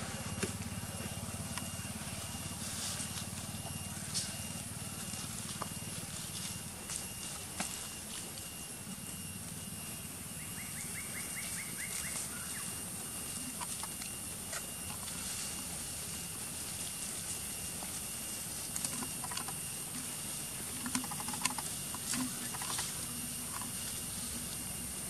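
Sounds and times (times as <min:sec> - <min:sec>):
monkeys rustling on dry leaves: 0:00.0 - 0:09.7, 0:11.0 - 0:25.0
steady high hiss: 0:00.0 - 0:25.0.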